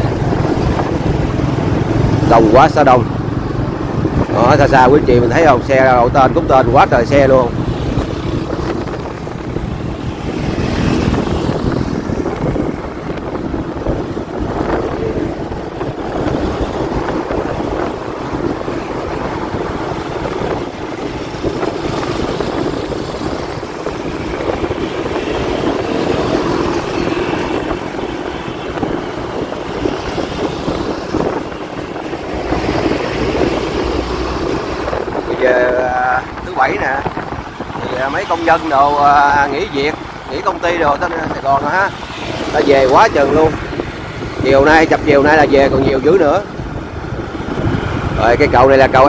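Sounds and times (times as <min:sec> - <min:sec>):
vehicle road noise: 0:00.0 - 0:49.0
wind on microphone: 0:00.0 - 0:49.0.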